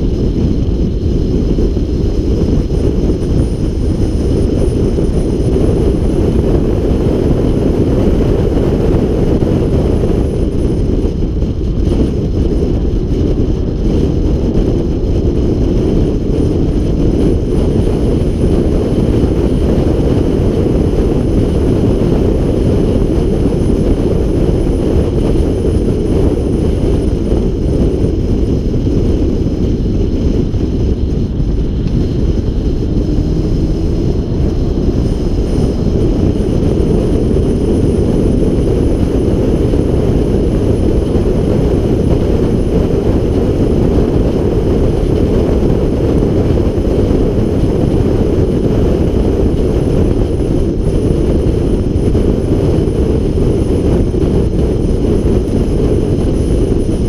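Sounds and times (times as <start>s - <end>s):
car driving at highway speed: 0.0s - 57.0s.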